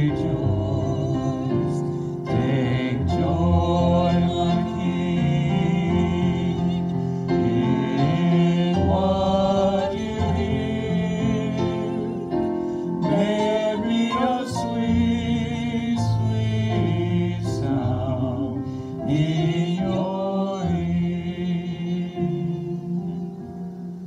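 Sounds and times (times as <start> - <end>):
hymn singing with vibrato: 0.0 - 24.0
instrumental accompaniment: 0.0 - 24.0.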